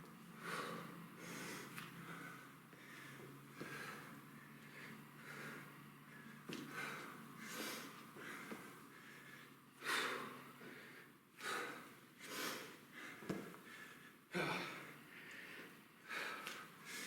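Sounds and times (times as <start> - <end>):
man breathing hard: 0.3 - 17.0.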